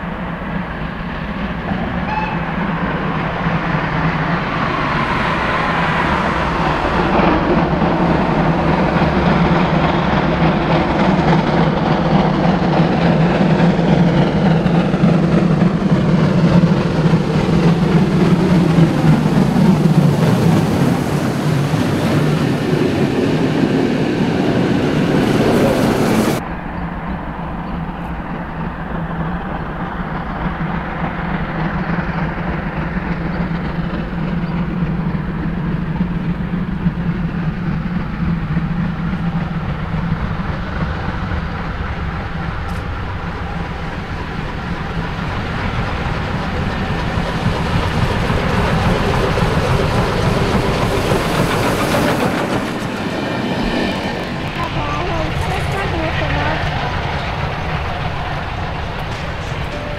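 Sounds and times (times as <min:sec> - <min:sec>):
steady train rumble: 0:00.0 - 0:59.9
train wheel clatter: 0:00.0 - 0:59.9.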